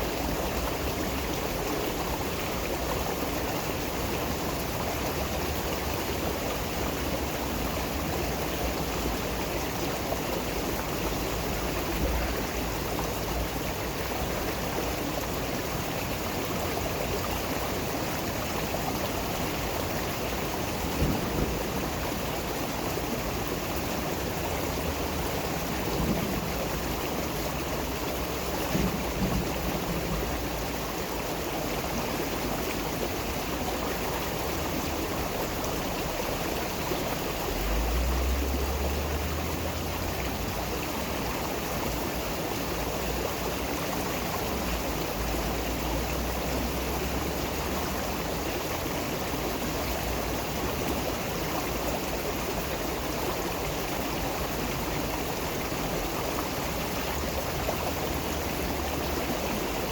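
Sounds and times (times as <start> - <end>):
stream rushing and babbling: 0.0 - 59.9.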